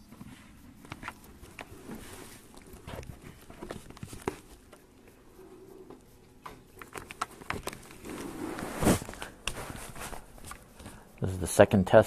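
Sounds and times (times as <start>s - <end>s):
microphone handling clicks and rustles: 0.1s - 4.8s, 5.9s - 11.1s.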